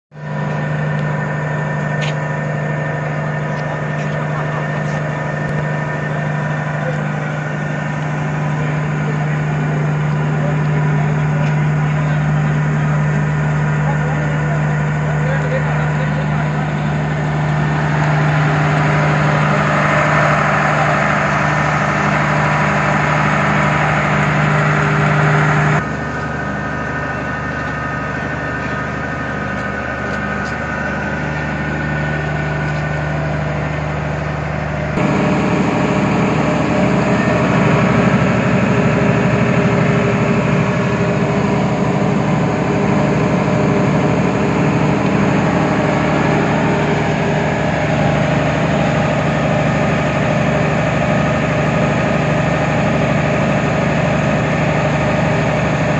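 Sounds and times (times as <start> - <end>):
diesel generator humming: 0.1 - 55.9.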